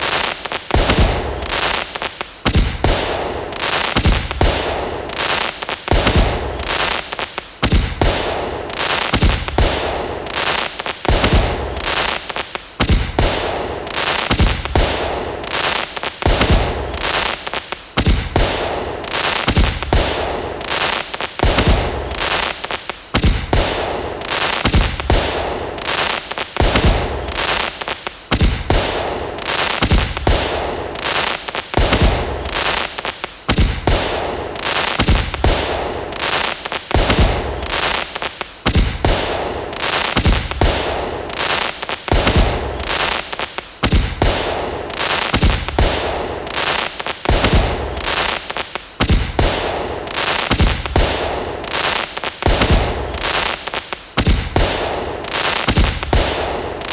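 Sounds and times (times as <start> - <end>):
fireworks bangs and crackles: 0.0 - 56.9
fireworks whistles: 0.0 - 56.9.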